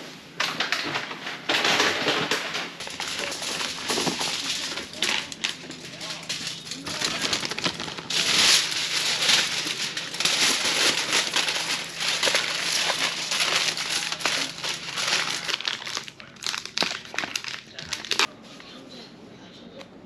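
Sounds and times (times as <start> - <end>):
aluminium foil crinkling: 0.6 - 18.3.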